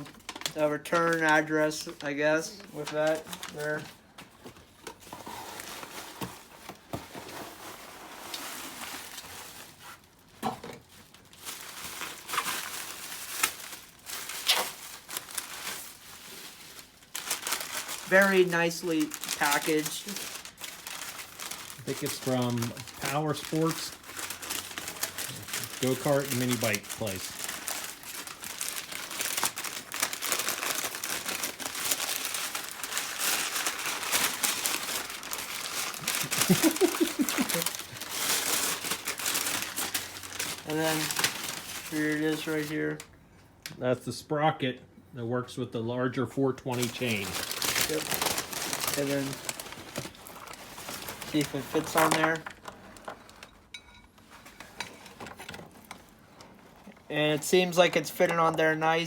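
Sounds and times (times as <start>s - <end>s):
packing material crinkling: 0.0s - 43.1s, 46.7s - 59.0s.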